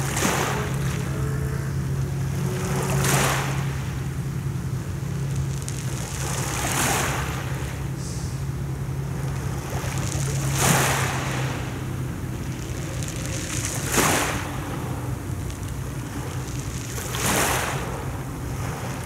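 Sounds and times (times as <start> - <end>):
steady low hum: 0.0 - 19.0
waves washing onto pebbles: 0.0 - 19.0.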